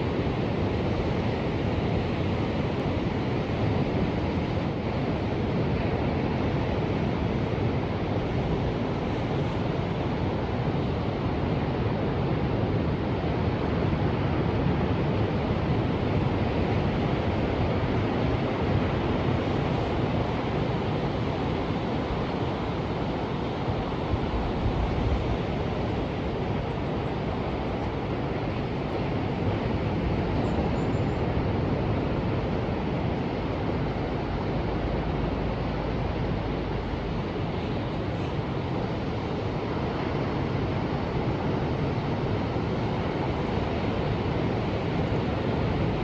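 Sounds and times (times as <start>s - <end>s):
ocean waves washing: 0.0s - 46.0s
wind noise on microphone: 0.0s - 46.0s.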